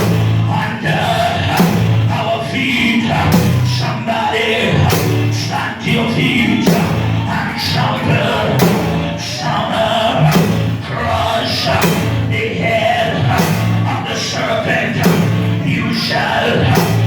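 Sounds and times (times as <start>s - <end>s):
band with bass and drums: 0.0s - 17.0s
gospel singing: 0.0s - 17.0s.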